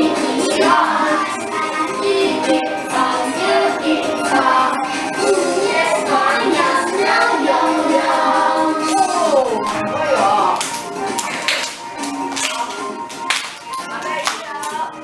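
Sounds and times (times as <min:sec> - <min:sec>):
children's song with voices singing: 0:00.0 - 0:15.0.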